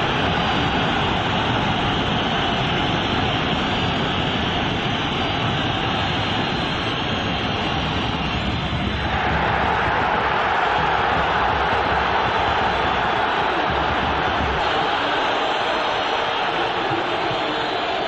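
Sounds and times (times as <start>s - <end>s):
stadium crowd roaring: 0.0s - 18.0s.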